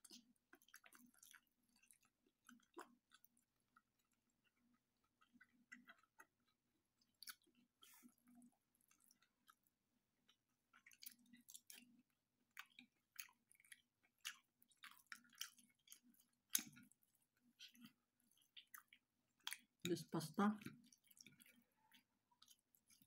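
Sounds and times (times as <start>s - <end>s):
person chewing: 0.0s - 19.9s, 20.6s - 23.0s.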